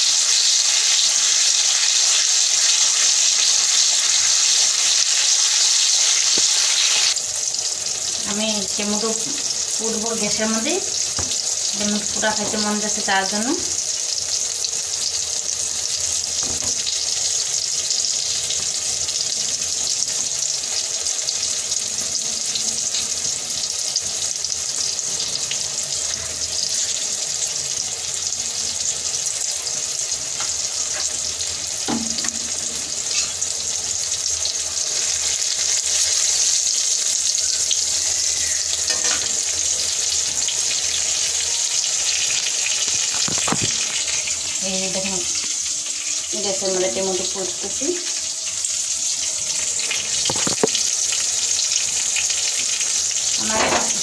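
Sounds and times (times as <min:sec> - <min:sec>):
food frying in oil: 0:00.0 - 0:54.0.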